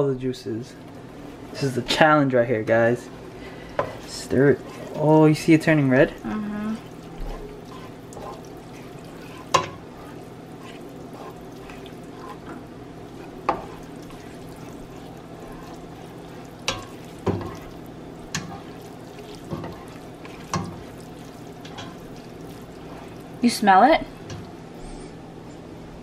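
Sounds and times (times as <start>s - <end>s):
steady low hum: 0.0s - 26.0s
spoon stirring noodles in a pot: 2.6s - 23.5s.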